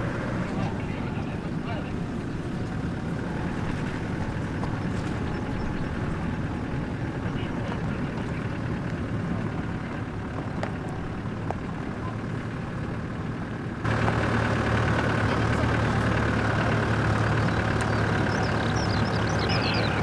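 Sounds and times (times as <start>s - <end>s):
vehicle engine and tyres on rough road: 0.0s - 20.0s.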